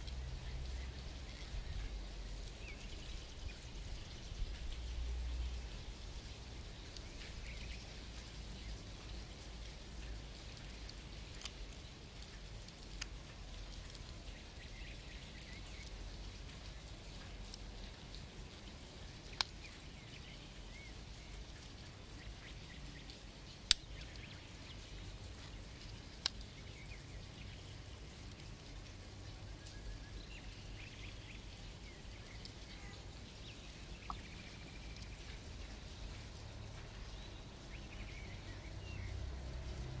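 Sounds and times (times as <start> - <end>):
faint background noise: 0.0 - 40.0.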